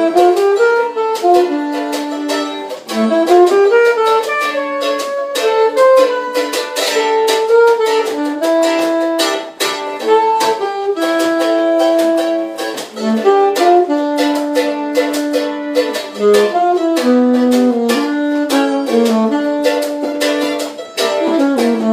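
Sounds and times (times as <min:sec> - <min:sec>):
saxophone playing slow melody: 0:00.0 - 0:21.9
strummed strings: 0:00.0 - 0:21.9.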